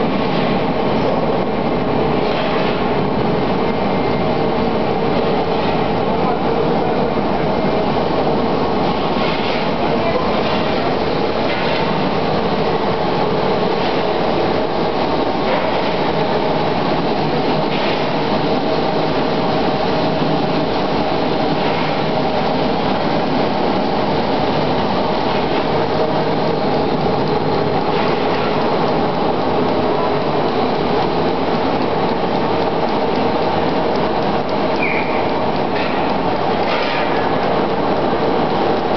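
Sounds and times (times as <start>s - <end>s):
production line machinery humming: 0.0s - 38.9s.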